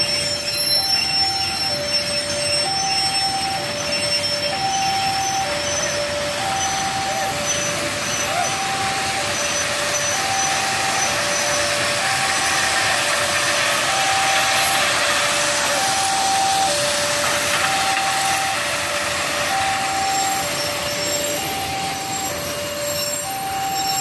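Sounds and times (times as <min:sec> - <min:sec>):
level crossing alarm: 0:00.0 - 0:24.0.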